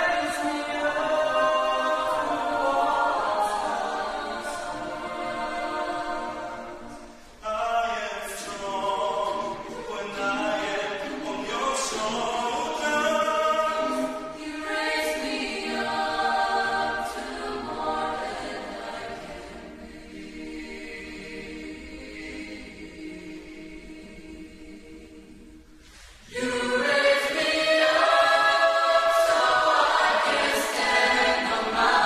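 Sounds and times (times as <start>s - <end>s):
choir singing a cappella: 0.0s - 32.0s.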